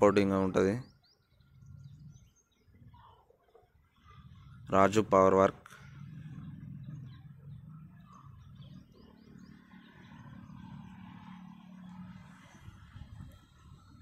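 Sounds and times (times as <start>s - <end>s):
bird chirps: 0.0s - 4.9s, 5.7s - 14.0s.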